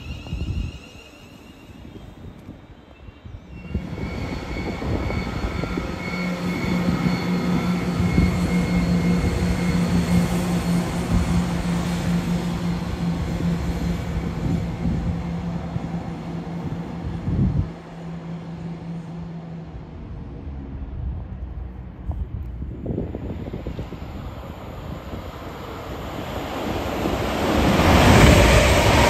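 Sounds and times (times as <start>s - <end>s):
diesel train engine hum: 0.0s - 29.0s
wheels rumbling on rail: 0.0s - 29.0s.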